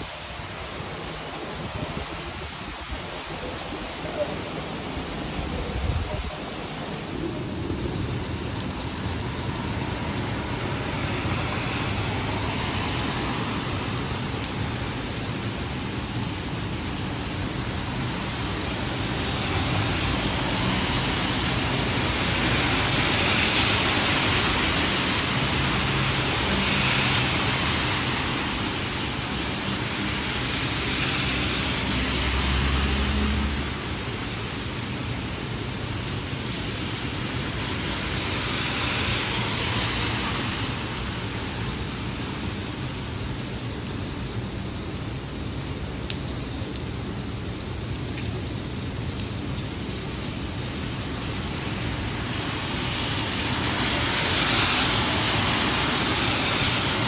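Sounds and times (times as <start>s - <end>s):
steady rain: 0.0s - 57.0s
tyres hissing on wet road: 0.0s - 57.0s.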